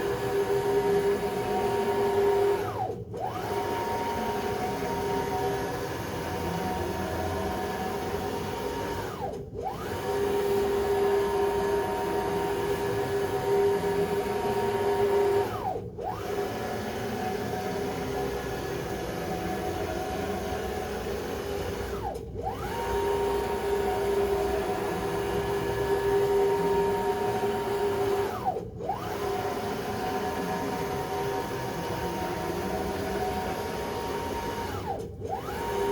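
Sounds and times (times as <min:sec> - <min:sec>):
router motors whining: 0:03.4 - 0:09.2, 0:09.8 - 0:35.9.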